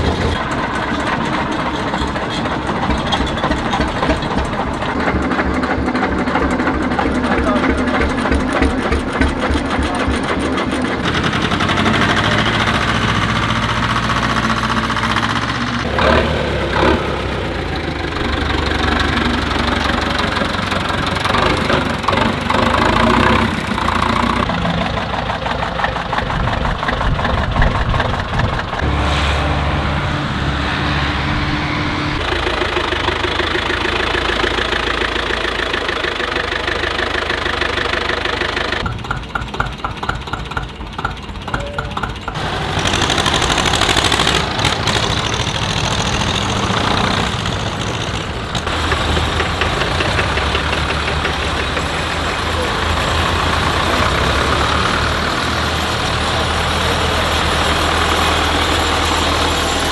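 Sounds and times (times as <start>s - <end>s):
tractor engines running: 0.0s - 59.9s.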